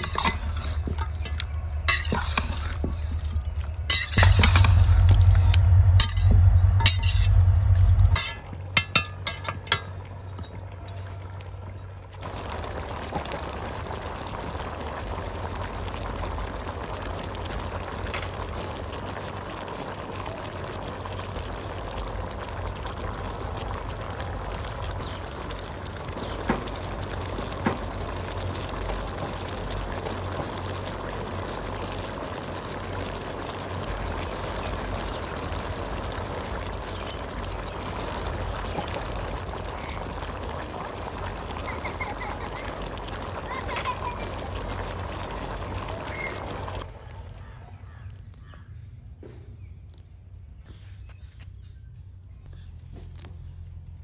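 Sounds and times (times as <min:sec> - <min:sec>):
chicken sizzling and bubbling in pot: 0:00.0 - 0:50.0.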